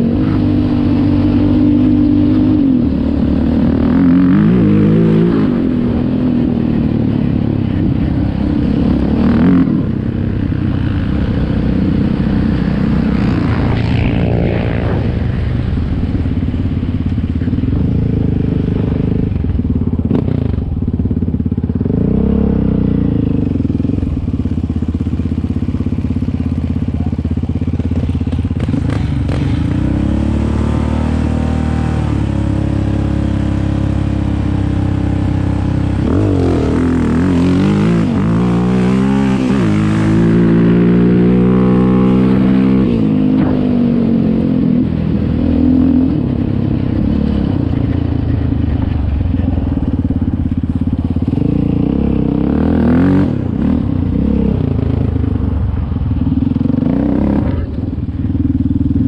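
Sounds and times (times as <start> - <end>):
quad engine revving: 0.0 - 16.3, 25.6 - 59.0.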